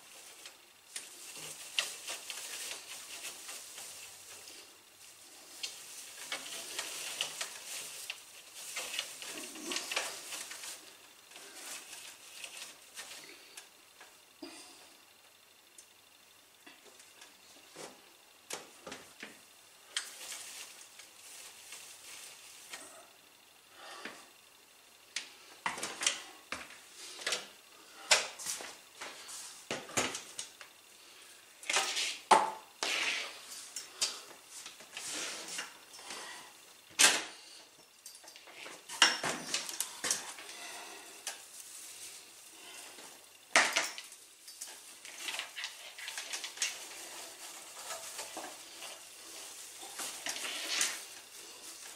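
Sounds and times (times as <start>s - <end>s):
plastic garland rustling: 0.0s - 14.6s, 16.8s - 23.2s, 28.3s - 51.9s.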